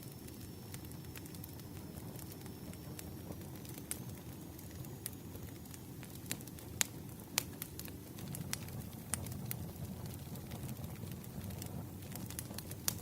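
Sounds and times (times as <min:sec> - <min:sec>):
fire crackles and pops: 0:00.0 - 0:13.0
low rumble of flames: 0:00.0 - 0:13.0.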